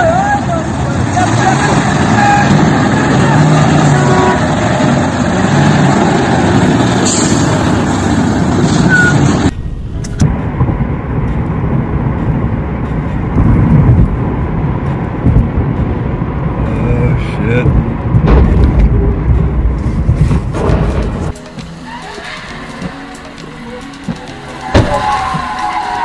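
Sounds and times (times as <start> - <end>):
dump truck engines rumbling: 0.0 - 26.0
highway traffic rumble: 0.0 - 26.0.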